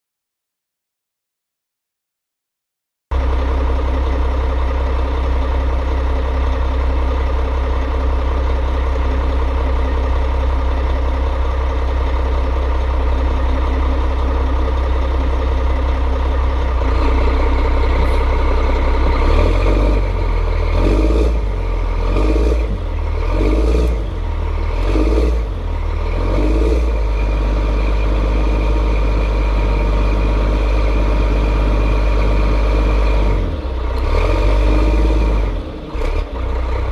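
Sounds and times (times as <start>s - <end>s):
bus diesel engine running: 3.1s - 36.9s.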